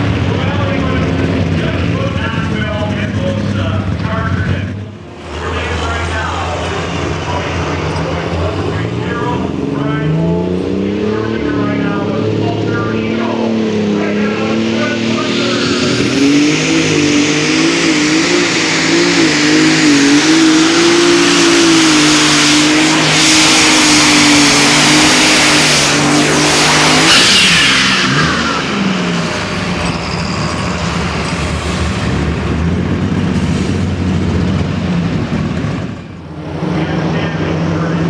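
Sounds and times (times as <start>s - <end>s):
engine running at full throttle: 0.0s - 38.0s
falling whine: 4.8s - 38.0s.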